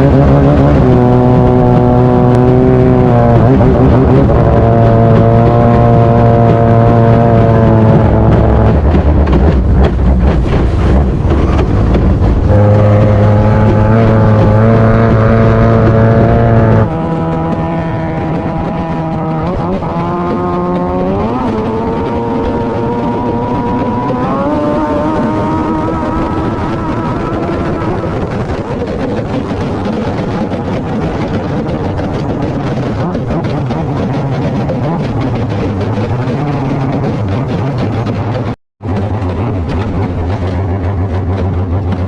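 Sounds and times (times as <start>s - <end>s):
racing boat engine at high revs: 0.0s - 42.0s.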